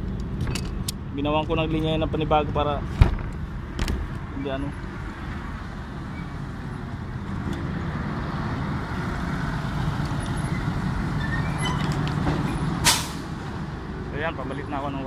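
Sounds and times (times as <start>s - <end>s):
large engine rumbling: 0.0s - 15.0s.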